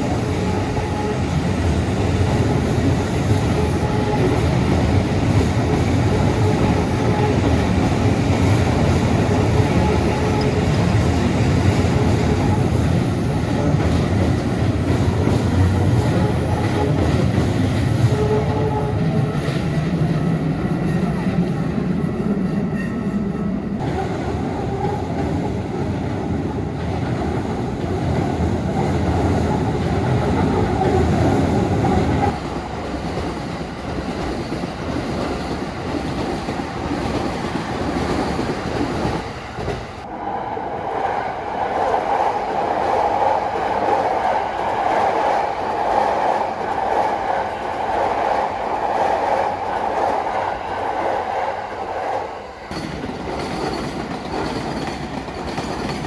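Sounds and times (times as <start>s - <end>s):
electric train running past: 0.0s - 56.0s.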